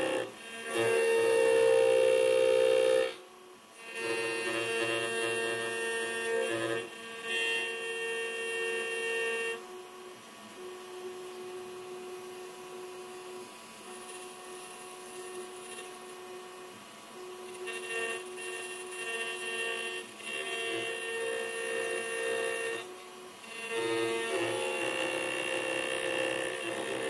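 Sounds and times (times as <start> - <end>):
spindle milling whine: 0.0 - 27.0.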